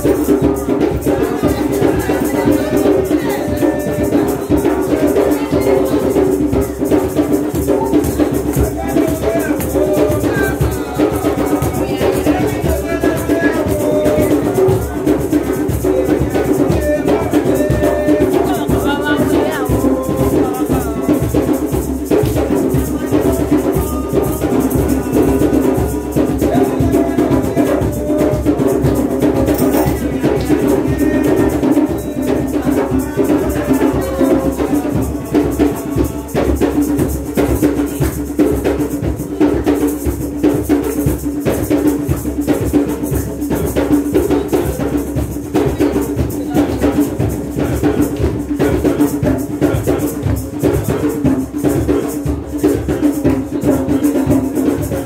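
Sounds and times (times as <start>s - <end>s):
drums and shakers: 0.0s - 55.0s
voices singing melody: 0.0s - 55.0s.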